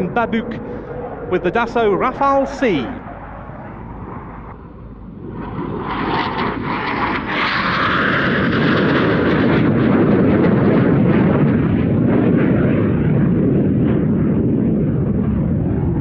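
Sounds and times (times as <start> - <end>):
deep steady rumble: 0.0 - 16.0
jet noise: 0.0 - 16.0.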